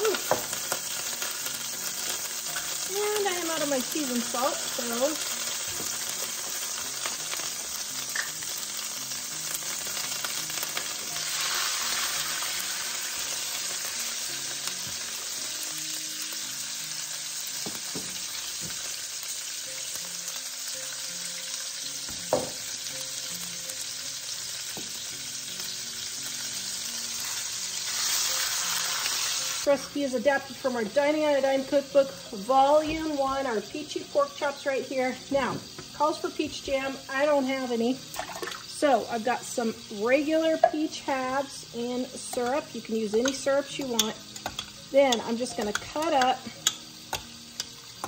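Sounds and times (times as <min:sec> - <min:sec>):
meat sizzling in grease: 0:00.0 - 0:48.0.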